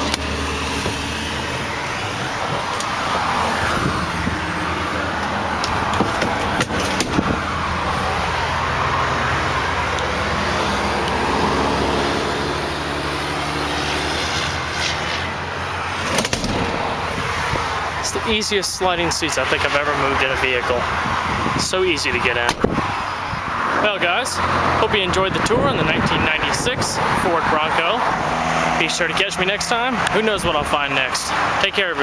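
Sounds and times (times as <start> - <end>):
highway traffic: 0.0 - 32.0
vehicles passing: 0.0 - 32.0.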